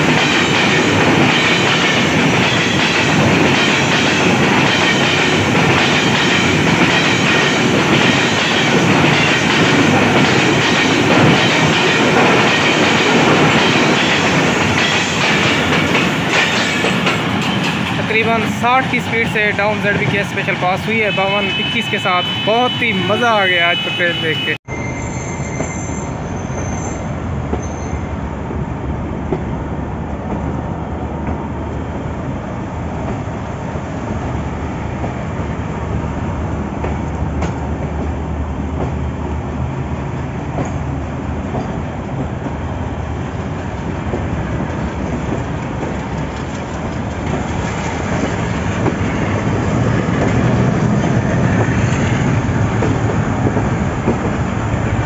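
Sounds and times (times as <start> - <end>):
train wheels on rails: 0.0 - 22.4, 25.0 - 55.0.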